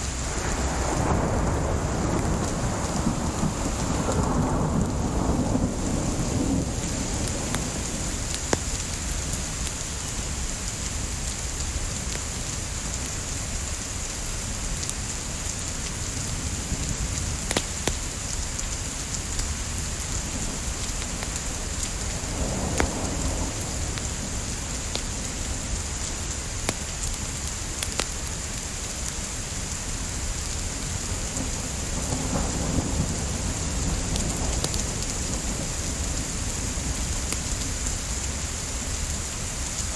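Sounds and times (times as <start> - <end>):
burning wood crackling: 0.0 - 39.9
steady rain: 0.0 - 39.9.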